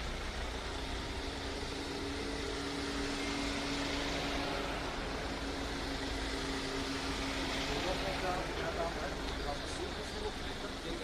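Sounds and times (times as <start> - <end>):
engine and tyre noise: 0.0 - 11.0
steady hum: 0.0 - 11.0.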